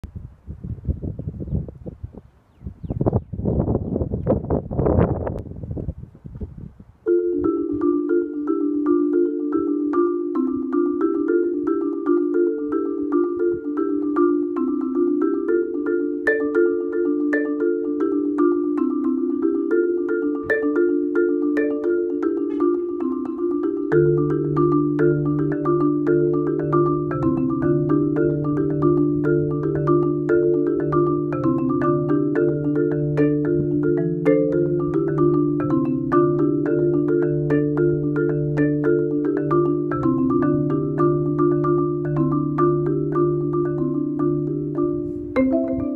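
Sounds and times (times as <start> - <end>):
marimba playing: 7.0 - 45.9.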